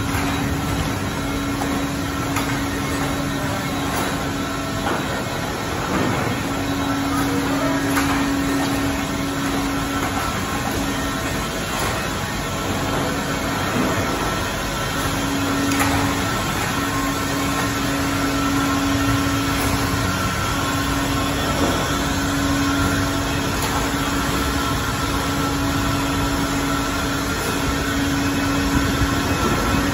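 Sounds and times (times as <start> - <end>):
broad machine noise: 0.0 - 29.9
printing press mechanical hum: 0.0 - 29.9.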